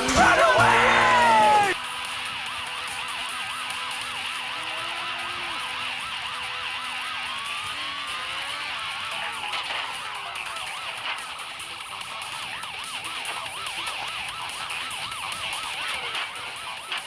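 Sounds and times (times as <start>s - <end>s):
emergency siren warbling: 0.0s - 17.0s.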